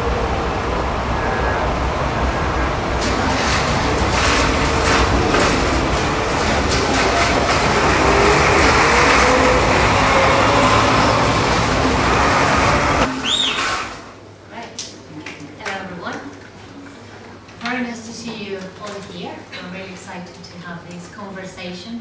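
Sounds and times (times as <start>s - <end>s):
rumble and clatter of loading area: 0.0s - 22.0s.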